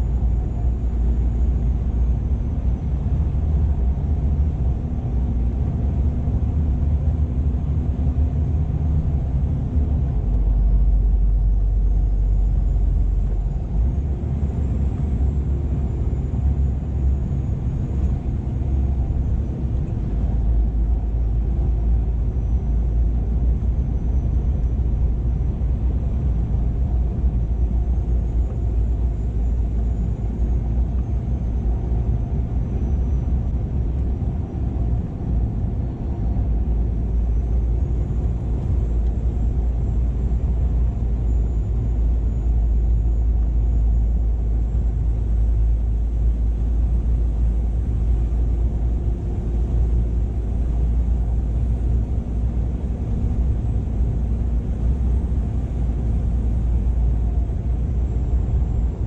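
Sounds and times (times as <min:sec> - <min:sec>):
deep road rumble: 0:00.0 - 0:59.0
truck engine drone: 0:00.0 - 0:59.0.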